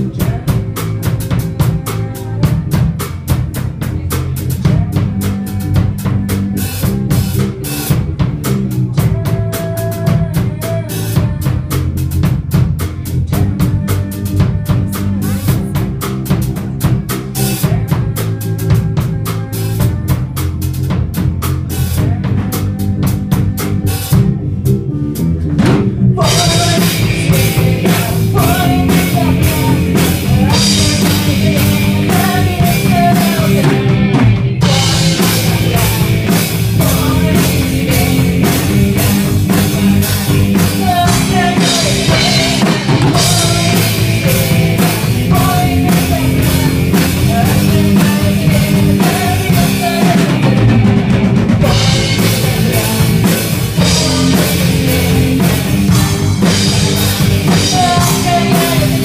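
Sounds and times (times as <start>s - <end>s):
girl singing lead: 0.0s - 8.2s, 8.9s - 24.4s, 25.6s - 59.0s
rock band playing live: 0.0s - 59.0s.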